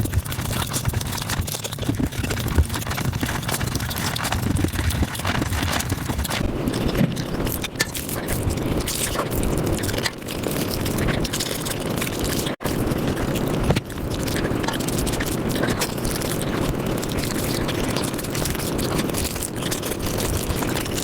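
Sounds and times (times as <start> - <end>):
sped up chewing and smacking: 0.0 - 21.0.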